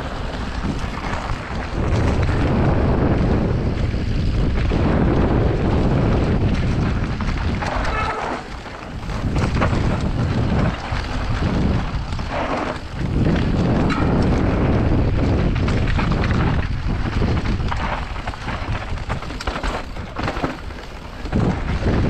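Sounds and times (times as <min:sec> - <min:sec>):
bike rattling over bumps: 0:00.0 - 0:22.0
bike tyres rolling on dirt: 0:00.0 - 0:22.0
wind buffeting microphone: 0:00.0 - 0:22.0.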